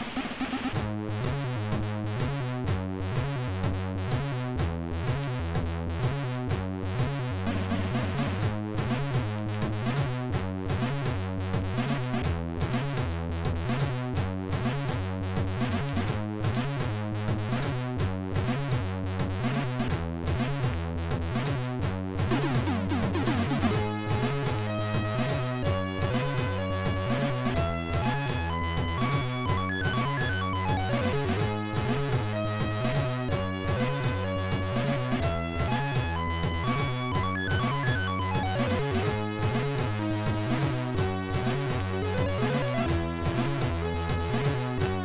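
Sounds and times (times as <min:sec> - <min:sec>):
chiptune music with bass line: 0:00.0 - 0:45.0.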